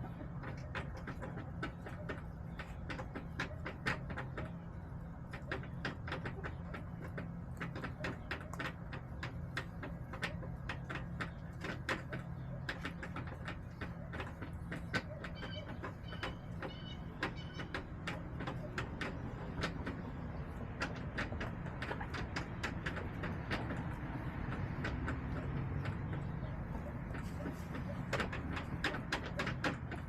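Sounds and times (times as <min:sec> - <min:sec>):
hens pecking taps: 0:00.0 - 0:30.0.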